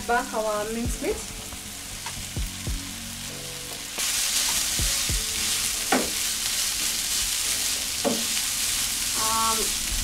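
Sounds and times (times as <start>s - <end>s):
meat sizzling in frying pan: 0.0s - 10.0s.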